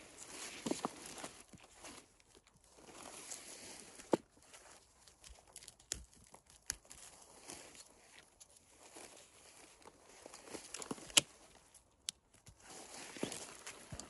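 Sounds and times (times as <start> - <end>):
rustling of leaves and twigs: 0.0 - 14.0
small crackles: 0.1 - 14.0.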